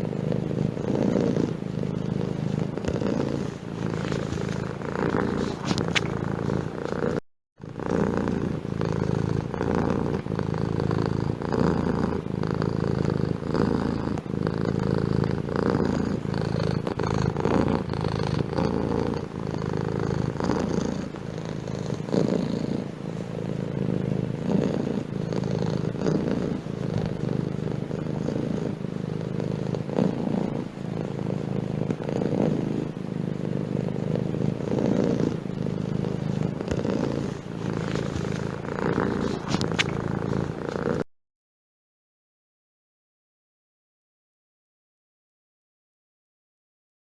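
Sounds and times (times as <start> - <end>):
cat purring: 0.0 - 41.1.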